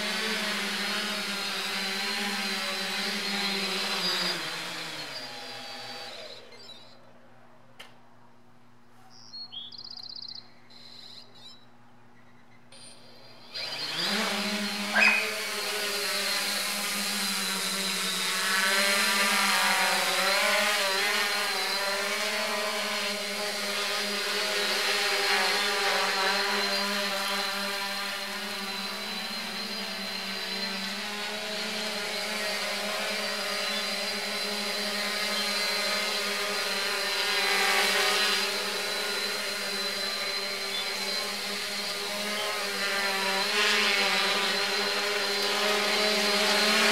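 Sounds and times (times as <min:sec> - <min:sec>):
quadcopter motors and propellers: 0:00.0 - 0:08.0, 0:10.1 - 0:46.9.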